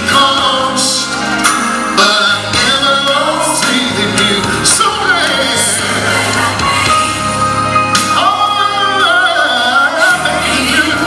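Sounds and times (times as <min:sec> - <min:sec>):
man singing into microphone: 0:00.0 - 0:07.0, 0:08.0 - 0:11.0
gospel band with bass and drums: 0:00.0 - 0:11.0.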